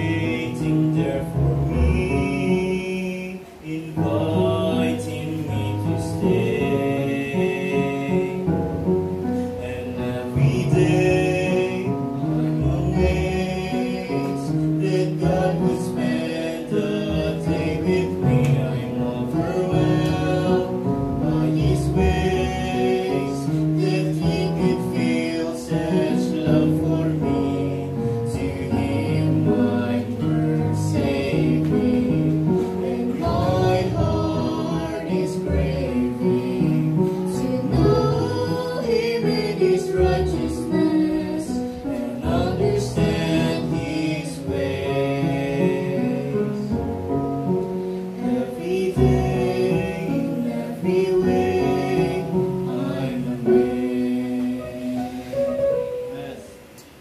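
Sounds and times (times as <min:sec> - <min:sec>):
woman and man singing: 0:00.0 - 0:08.6, 0:09.2 - 0:47.0, 0:48.1 - 0:55.4.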